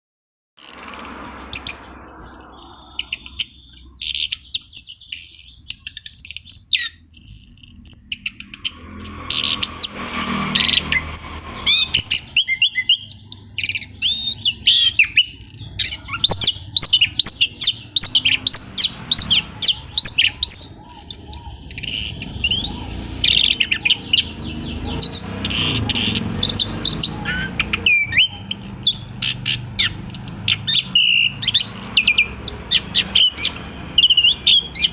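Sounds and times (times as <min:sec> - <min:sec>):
thrush singing: 0:00.6 - 0:34.9.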